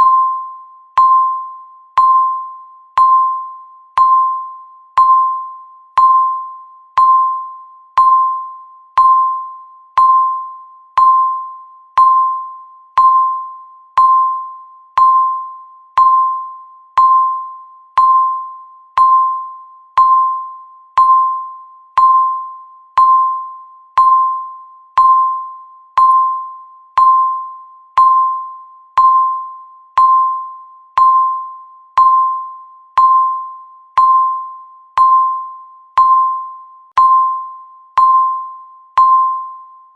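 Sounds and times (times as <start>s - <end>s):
timer bell-like ding: 0.0s - 39.9s.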